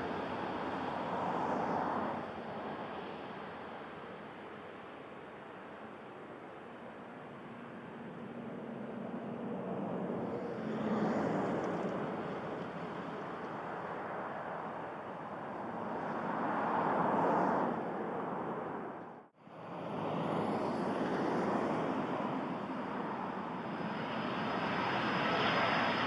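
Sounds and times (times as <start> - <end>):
jet airliner engine roar: 0.0 - 26.0.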